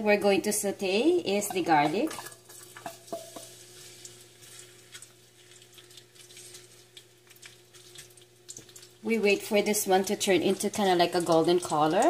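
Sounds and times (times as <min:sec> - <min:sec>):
garlic sizzling in hot oil: 0:00.9 - 0:12.0.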